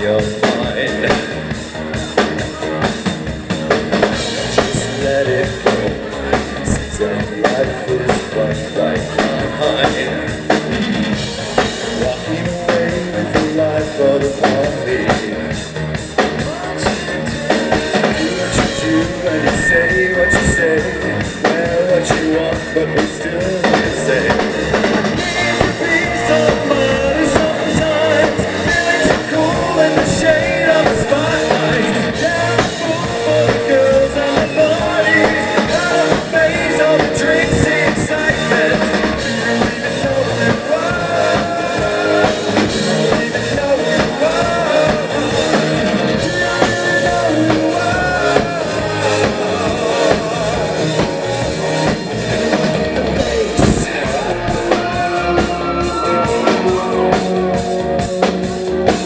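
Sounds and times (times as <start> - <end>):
rock band playing live: 0.0 - 59.0
lead singer singing: 3.7 - 15.7, 16.4 - 59.0.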